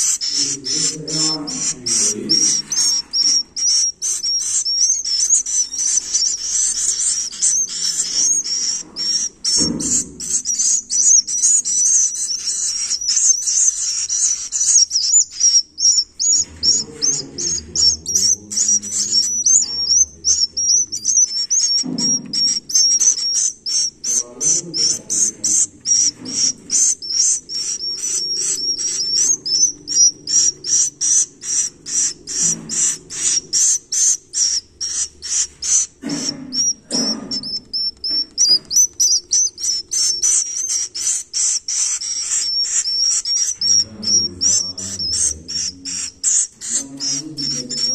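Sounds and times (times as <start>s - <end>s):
chicks chirping: 0.0s - 47.9s.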